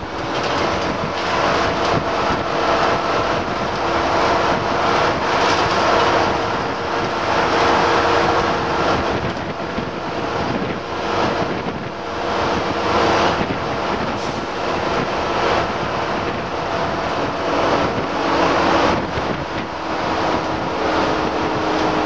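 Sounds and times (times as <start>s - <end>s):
bus engine drone: 0.0s - 22.0s
road noise: 0.0s - 22.0s
rushing wind: 0.0s - 22.0s.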